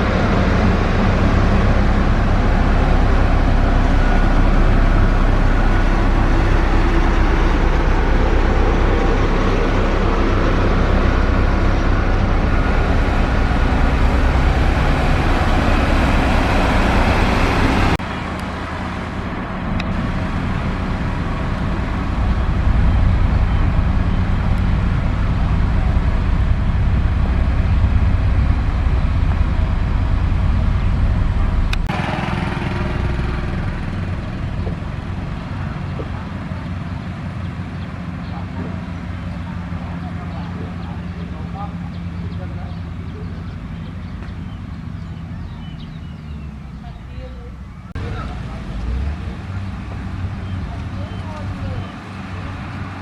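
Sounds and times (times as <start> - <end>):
heavy diesel machinery throbbing: 0.0 - 53.0.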